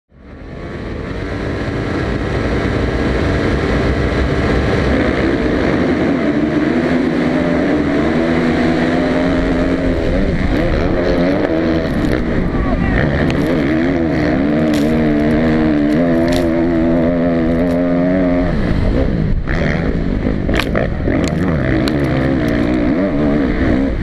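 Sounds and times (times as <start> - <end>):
other motorbike engines: 0.1 - 24.0
motorbike engine revving hard: 0.2 - 24.0.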